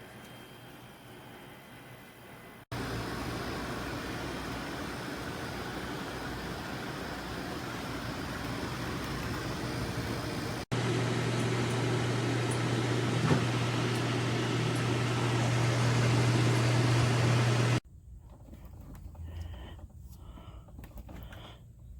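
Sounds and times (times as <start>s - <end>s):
air conditioner air rushing: 2.2s - 21.9s.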